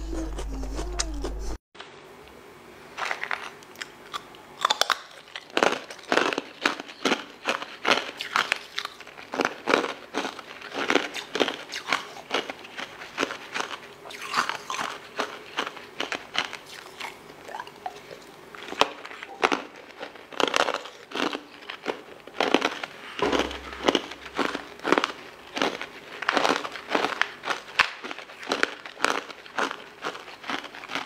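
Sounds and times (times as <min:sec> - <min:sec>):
ice crunching while chewed: 0:03.0 - 0:31.0.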